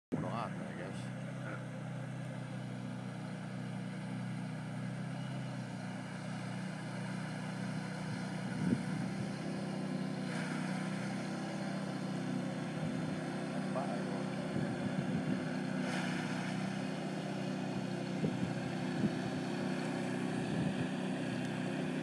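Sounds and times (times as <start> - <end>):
distant atv engine running: 0.1 - 22.0.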